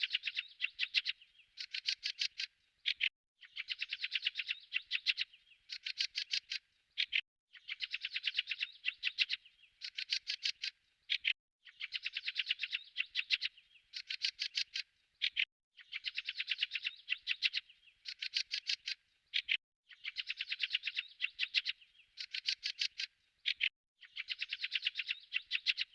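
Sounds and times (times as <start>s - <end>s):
songbird chirping: 0.0s - 25.9s.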